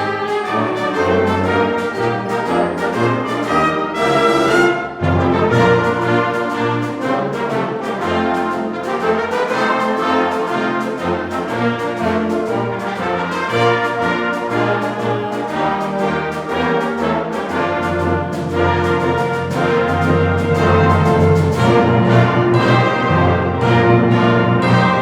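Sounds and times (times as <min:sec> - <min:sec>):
brass section: 0:00.0 - 0:25.0
concert band playing: 0:00.0 - 0:25.0.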